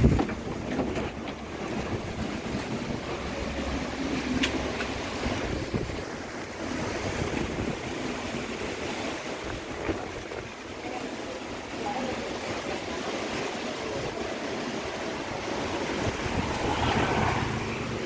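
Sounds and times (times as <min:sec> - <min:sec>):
wind buffeting microphone: 0:00.0 - 0:12.0, 0:12.6 - 0:18.0
gusty wind through trees: 0:00.0 - 0:18.0.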